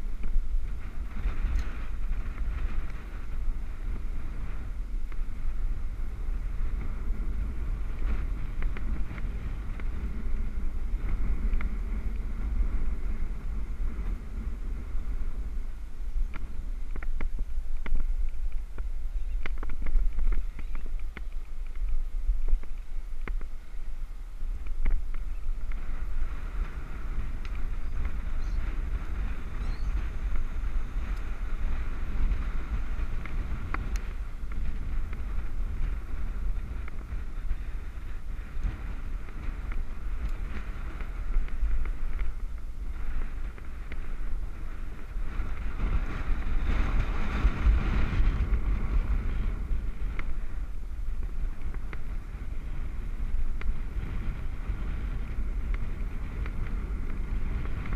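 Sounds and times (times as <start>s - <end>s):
bicycle rolling hiss: 0.0s - 57.9s
wind buffeting microphone: 0.0s - 57.9s
faint ticks: 1.2s - 4.0s, 7.9s - 13.0s, 16.2s - 23.6s, 24.5s - 31.4s, 32.1s - 50.5s, 51.1s - 57.9s.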